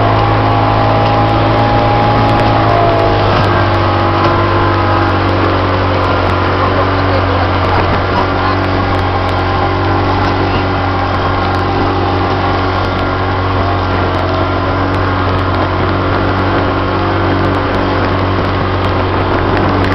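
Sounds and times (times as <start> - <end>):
outboard motor running: 0.0 - 19.9.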